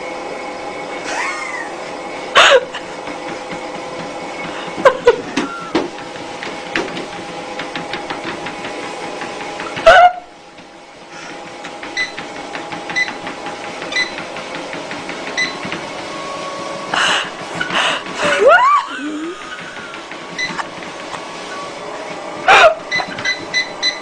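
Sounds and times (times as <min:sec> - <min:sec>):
treadmill humming: 0:00.0 - 0:24.0
treadmill belt clicking: 0:02.4 - 0:24.0.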